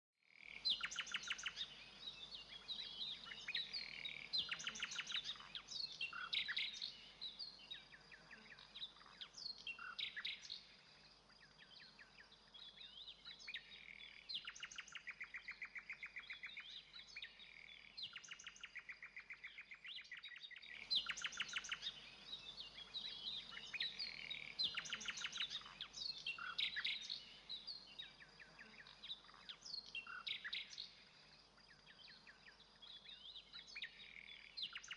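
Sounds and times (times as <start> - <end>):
nightingale singing: 0.4 - 34.9.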